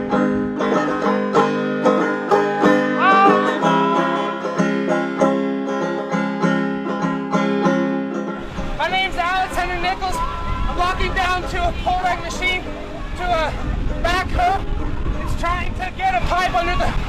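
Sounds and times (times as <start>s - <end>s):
banjo picking: 0.0s - 16.6s.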